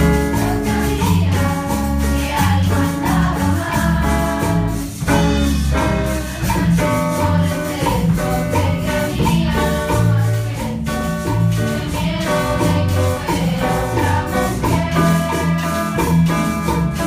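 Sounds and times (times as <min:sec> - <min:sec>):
electric bass: 0:00.0 - 0:17.0
hand percussion: 0:00.0 - 0:17.0
melodicas: 0:00.0 - 0:17.0
people singing into microphones: 0:00.0 - 0:17.0.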